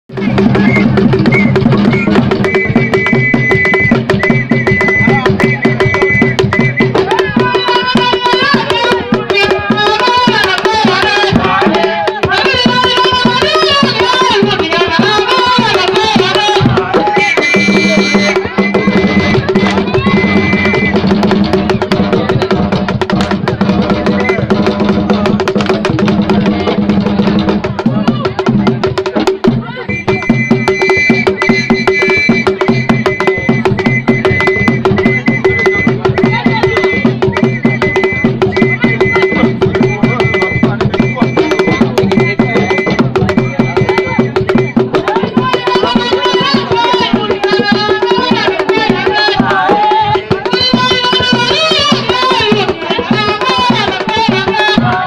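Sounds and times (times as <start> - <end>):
fast drumming: 0.1 - 55.0
voices singing: 0.3 - 22.8, 29.5 - 55.0.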